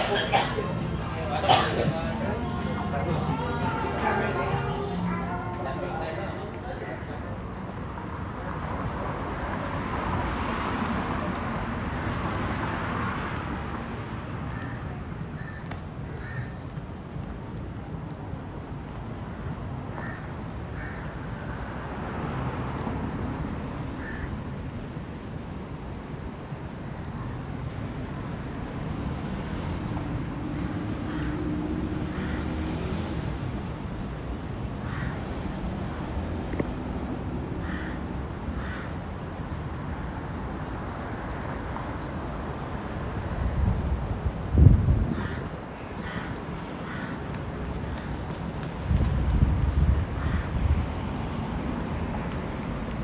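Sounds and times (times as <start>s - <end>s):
traffic noise: 0.0s - 53.0s.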